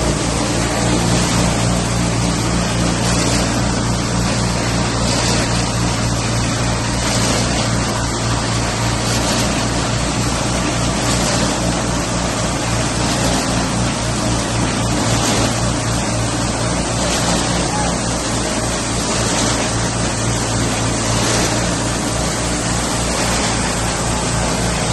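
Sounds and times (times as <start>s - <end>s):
block making machine humming and rattling: 0.0s - 24.9s.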